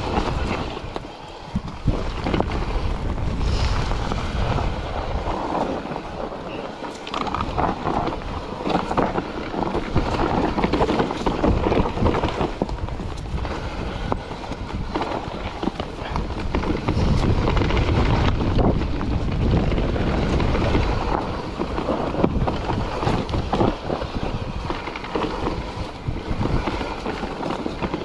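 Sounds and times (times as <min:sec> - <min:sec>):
bike rattling and knocking: 0:00.0 - 0:28.0
bike rolling rumble: 0:00.0 - 0:28.0
wind buffeting microphone: 0:00.0 - 0:28.0.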